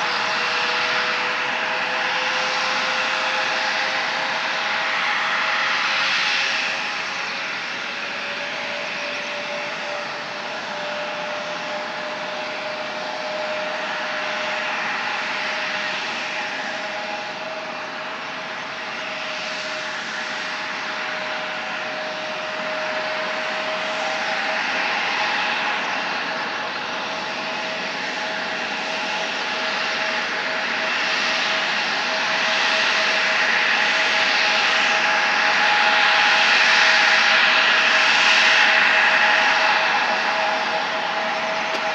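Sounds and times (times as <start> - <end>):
jet engines idling whine: 0.0 - 41.9.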